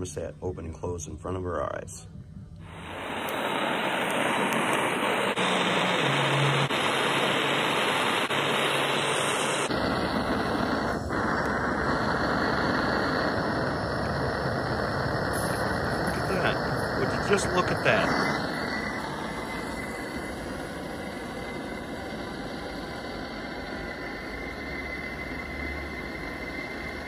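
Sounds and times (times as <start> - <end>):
gas torch hissing: 2.6 - 27.0.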